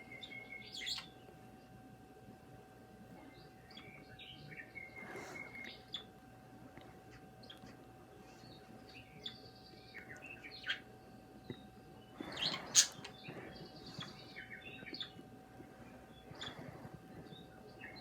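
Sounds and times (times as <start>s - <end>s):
birds chirping and twittering: 0.0s - 18.0s.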